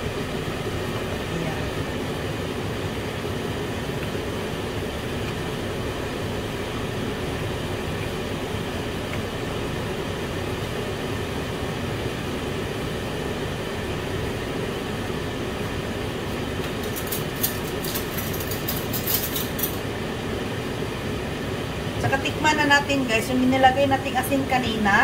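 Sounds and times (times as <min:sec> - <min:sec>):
kitchen background rumble: 0:00.0 - 0:25.0.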